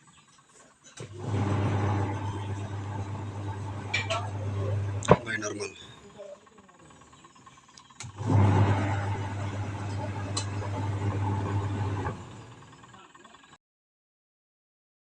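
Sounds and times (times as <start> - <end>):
electric motor humming: 1.0 - 13.3.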